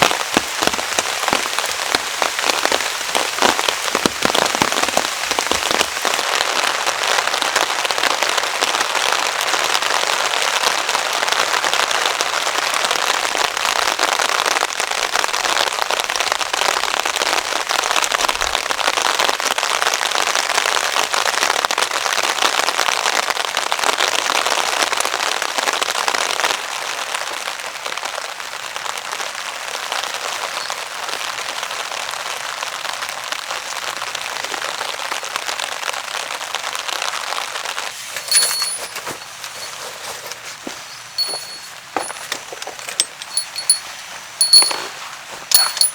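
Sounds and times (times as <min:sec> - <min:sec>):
heavy rain on a tarp: 0:00.0 - 0:38.3, 0:39.2 - 0:41.2, 0:41.8 - 0:45.6.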